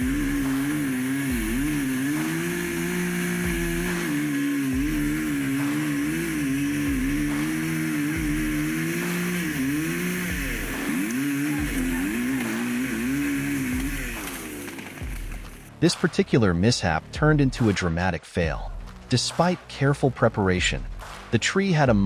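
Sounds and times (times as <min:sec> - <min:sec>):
engine revving up and down: 0:00.0 - 0:17.9.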